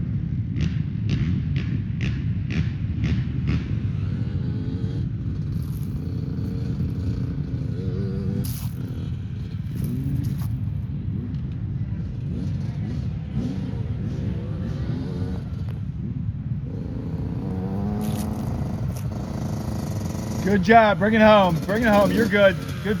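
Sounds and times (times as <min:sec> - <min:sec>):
off-road vehicle engine revving: 0:02.5 - 0:23.0.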